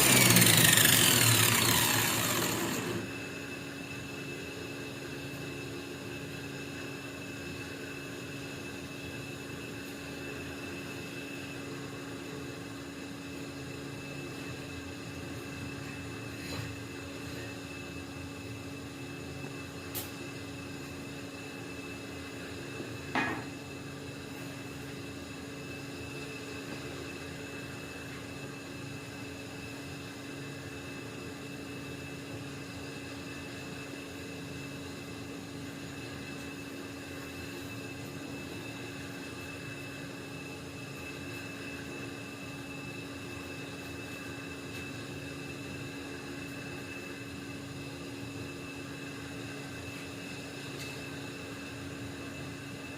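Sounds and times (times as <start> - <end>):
steady machine hum: 0.0 - 52.9.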